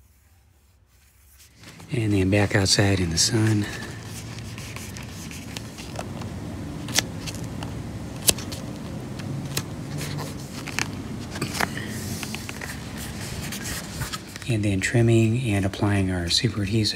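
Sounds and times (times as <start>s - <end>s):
hands smoothing vinyl: 0.0s - 14.6s
low steady hum: 0.0s - 16.9s.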